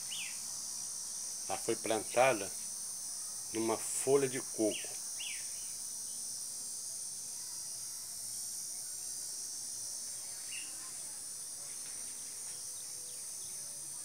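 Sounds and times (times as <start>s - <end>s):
high-pitched insect chorus: 0.0s - 14.0s
insect chirp: 0.0s - 14.0s.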